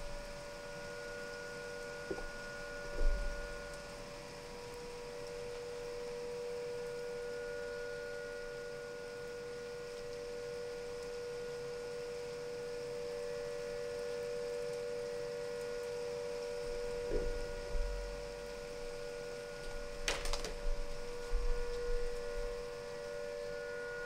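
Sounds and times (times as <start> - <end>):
siren holding a steady note: 0.0 - 24.0.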